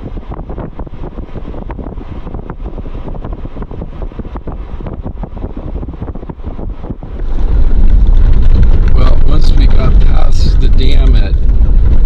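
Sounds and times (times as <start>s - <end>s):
engine and road rumble: 0.0s - 12.0s
wind buffeting microphone: 0.0s - 12.0s.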